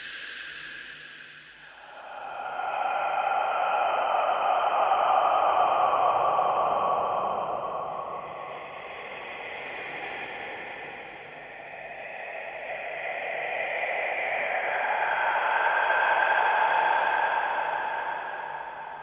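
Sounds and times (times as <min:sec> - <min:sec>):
breathy whispered hiss: 0:00.0 - 0:19.0.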